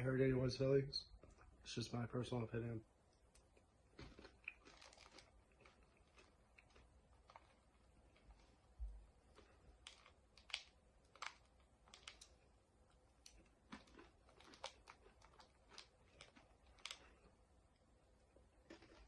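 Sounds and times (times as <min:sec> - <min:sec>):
candy crunching: 0:03.3 - 0:19.0.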